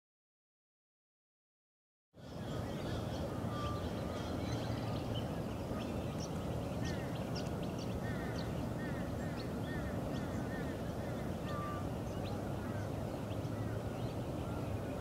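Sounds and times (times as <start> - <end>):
birds chirping and calling: 2.2 - 15.0.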